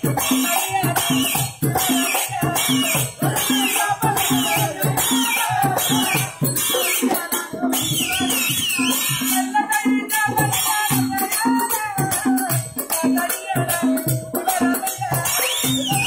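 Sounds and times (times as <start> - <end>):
drum beating: 0.0 - 16.0
rattling percussion: 0.0 - 16.0.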